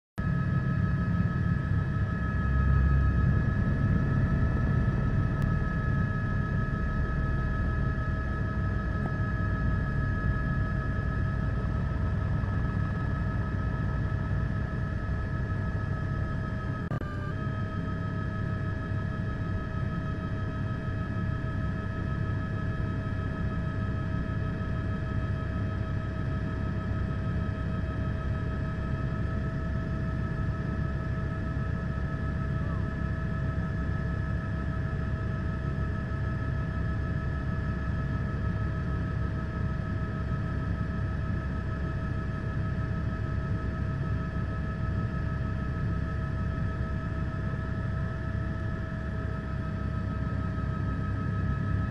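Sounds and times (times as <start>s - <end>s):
constant whining tones: 0.2s - 51.9s
helicopter engine and rotor: 0.2s - 51.9s.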